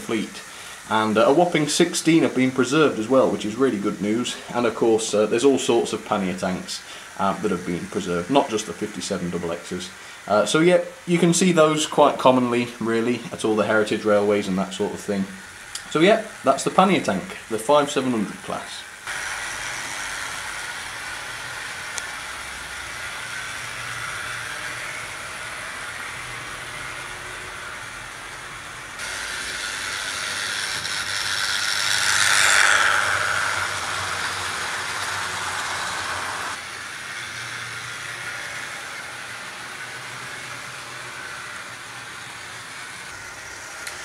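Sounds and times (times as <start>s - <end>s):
model train running on rails: 0.0s - 44.0s.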